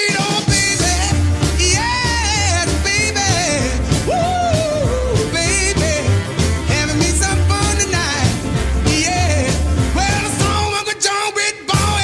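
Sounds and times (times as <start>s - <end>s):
steady beat: 0.0s - 10.8s, 11.8s - 12.0s
person singing: 0.0s - 12.0s
pulsing bass line: 0.5s - 10.7s.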